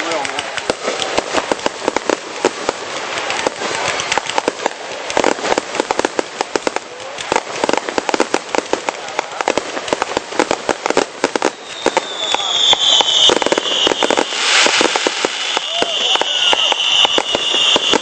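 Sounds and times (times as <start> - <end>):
fireworks banging and crackling: 0.0 - 18.0.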